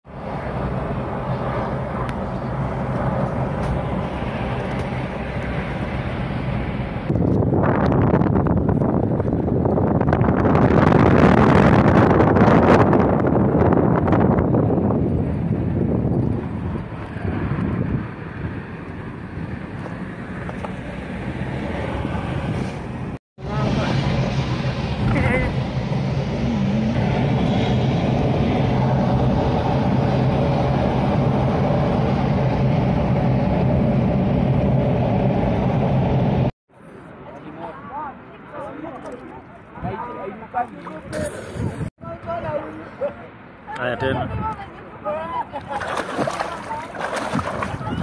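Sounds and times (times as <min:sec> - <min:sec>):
car engine and road noise: 0:00.0 - 0:38.6
wind buffeting microphone: 0:00.1 - 0:36.5, 0:40.9 - 0:42.6, 0:44.0 - 0:48.0.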